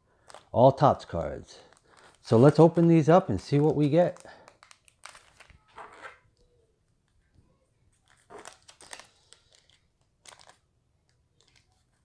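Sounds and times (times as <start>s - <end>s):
faint wrapper crinkling and tearing: 0.2s - 12.0s.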